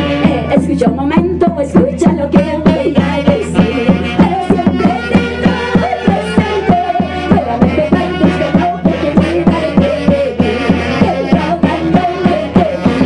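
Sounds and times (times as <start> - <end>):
live band music: 0.0 - 13.0
quick drum beat: 0.0 - 13.0.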